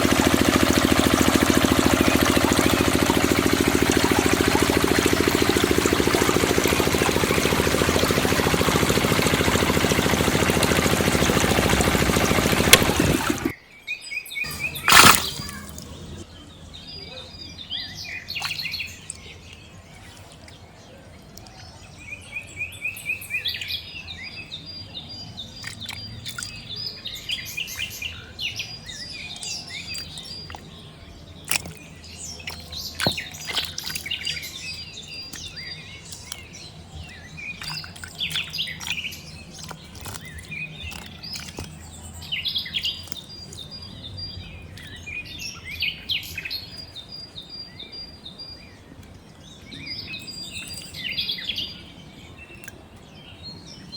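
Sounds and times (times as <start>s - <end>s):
birds chirping and trilling: 0.0s - 53.9s.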